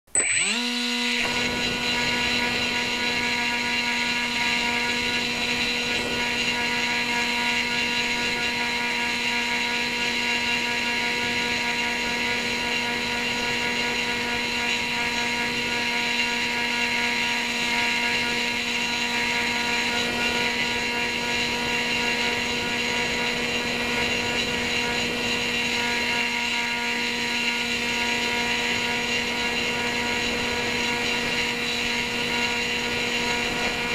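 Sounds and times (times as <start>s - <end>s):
model plane motor whine: 0.1s - 33.9s.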